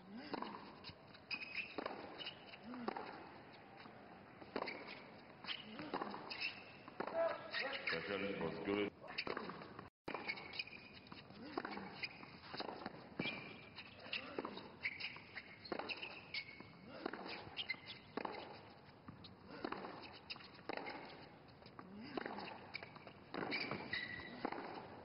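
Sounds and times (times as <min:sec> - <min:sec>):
ball bouncing on hard court: 0:01.3 - 0:03.3, 0:04.4 - 0:08.0, 0:09.1 - 0:25.0.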